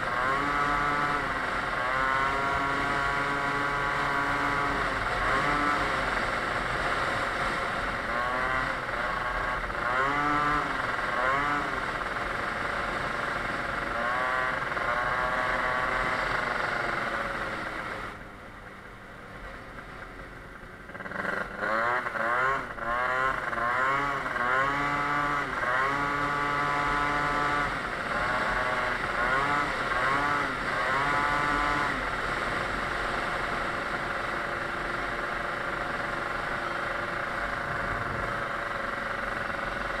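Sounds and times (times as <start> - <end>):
two-stroke scooter engine revving: 0.0 - 40.0.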